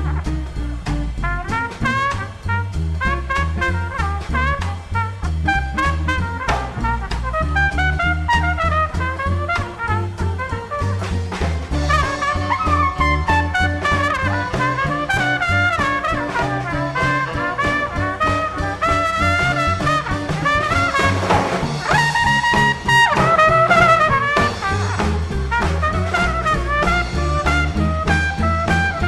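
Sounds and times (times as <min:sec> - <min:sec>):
swing band playing: 0:00.0 - 0:29.0.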